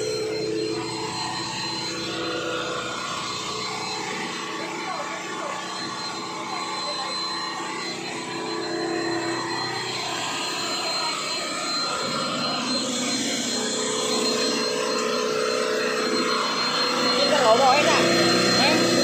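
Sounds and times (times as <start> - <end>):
thin high-pitched whine: 0.0 - 19.0.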